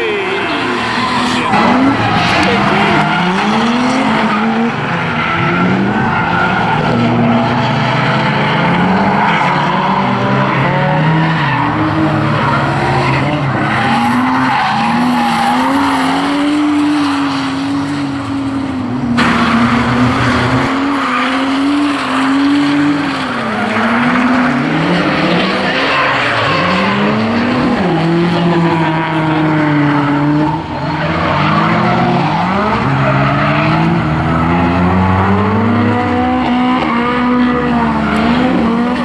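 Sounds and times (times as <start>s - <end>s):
car engines revving hard: 0.0s - 39.0s.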